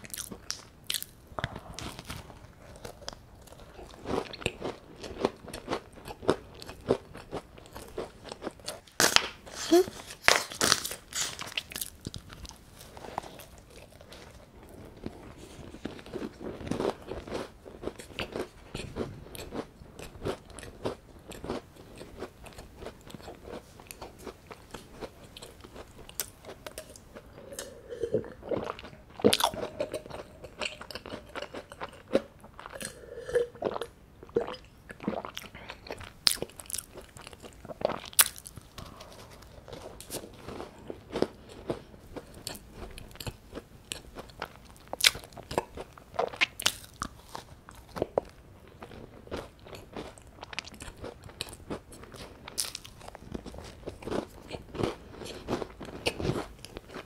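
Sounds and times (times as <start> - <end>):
chewing crumbly food: 0.0 - 57.0.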